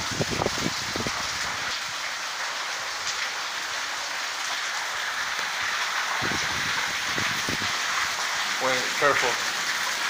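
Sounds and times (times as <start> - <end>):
heavy rain on concrete: 0.0 - 10.0.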